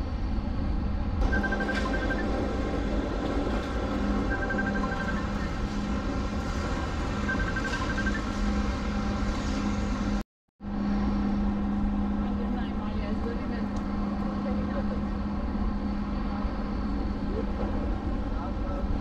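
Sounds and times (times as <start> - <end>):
vehicle engine humming: 1.2 - 18.9.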